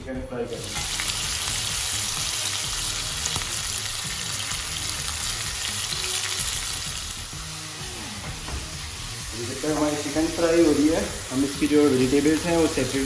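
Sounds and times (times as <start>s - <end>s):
chicken frying in hot oil: 0.6s - 13.0s.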